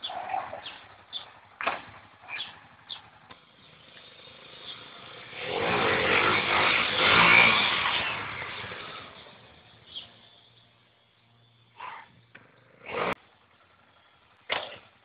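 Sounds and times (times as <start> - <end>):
dirt bike passing by: 0.0 - 10.6, 11.8 - 13.6.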